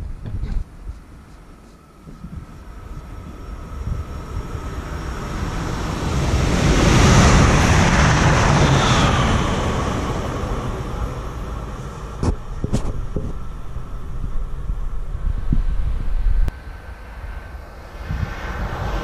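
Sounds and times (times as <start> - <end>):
train rumble and rail noise: 0.0 - 19.0.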